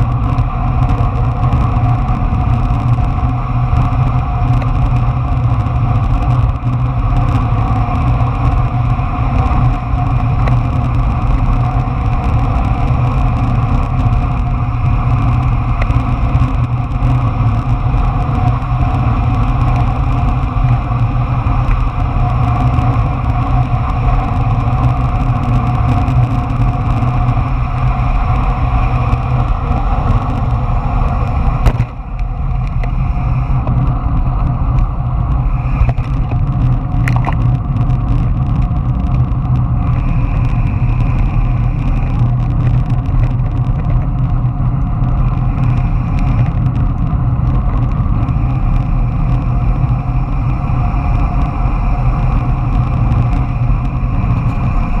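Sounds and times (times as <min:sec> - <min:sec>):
longboard wheels rolling on asphalt: 0:00.0 - 0:55.0
wind on microphone: 0:00.0 - 0:55.0.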